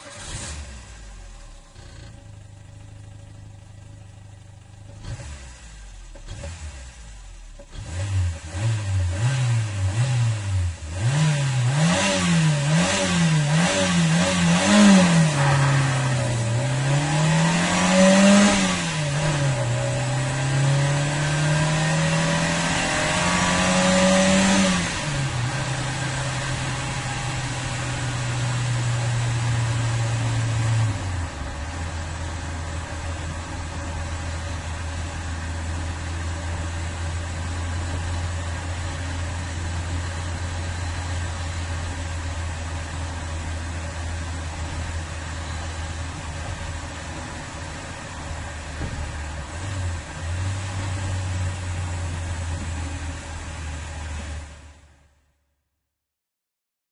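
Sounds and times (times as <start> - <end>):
car engine revving: 0.0 - 54.8.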